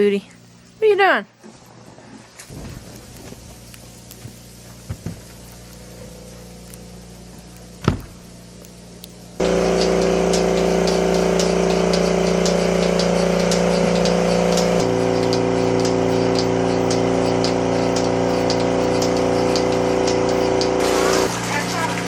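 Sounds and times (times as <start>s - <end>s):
motor humming drone: 2.5s - 22.0s
regular mechanical ticking: 2.9s - 22.0s.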